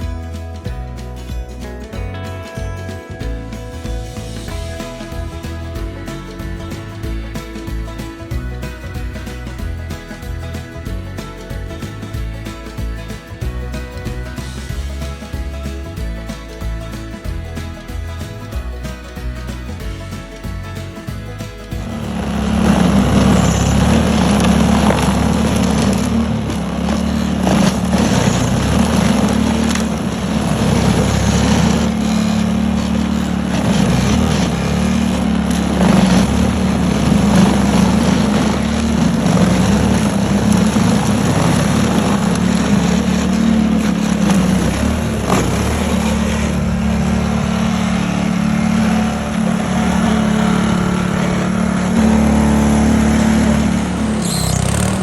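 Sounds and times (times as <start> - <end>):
snow thrower engine running: 0.0 - 55.0.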